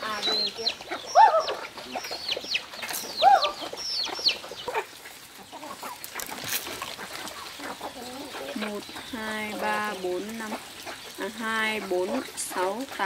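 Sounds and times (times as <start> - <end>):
rising and falling chicken calls: 0.0 - 11.4
chicks peeping: 0.0 - 13.0
hens clucking: 0.0 - 13.0.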